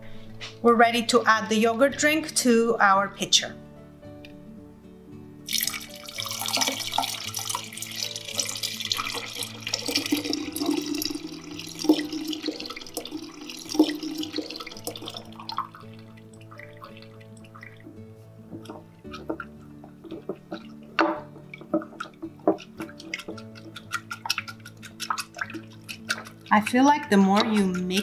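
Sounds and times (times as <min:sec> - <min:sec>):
liquid pouring and splashing: 0:05.5 - 0:28.0.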